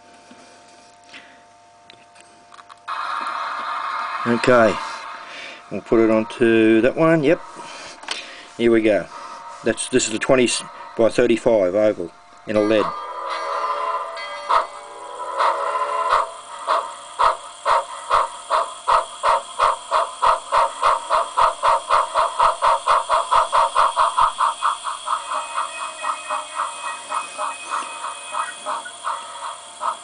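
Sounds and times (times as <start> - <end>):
steam locomotive chuffing: 2.9 - 30.0.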